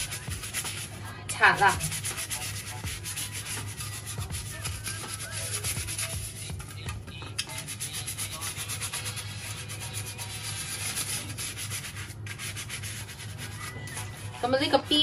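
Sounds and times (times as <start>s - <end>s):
bristle brush scrubbing: 0.0s - 6.8s, 7.4s - 15.0s.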